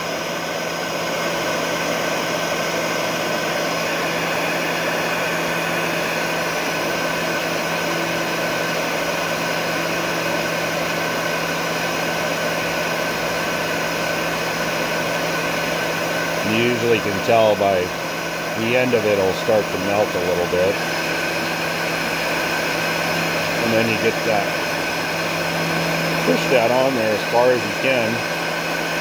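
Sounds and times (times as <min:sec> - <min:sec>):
heat gun motor hum: 0:00.0 - 0:29.0.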